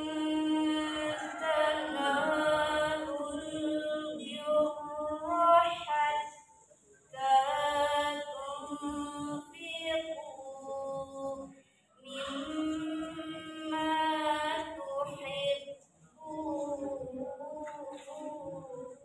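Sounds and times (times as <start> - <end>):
woman chanting into a microphone: 0.0 - 6.5, 7.1 - 19.0.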